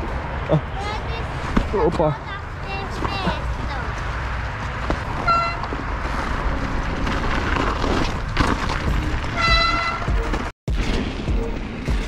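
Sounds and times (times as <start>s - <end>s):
wind and bike rolling noise: 0.0s - 12.0s.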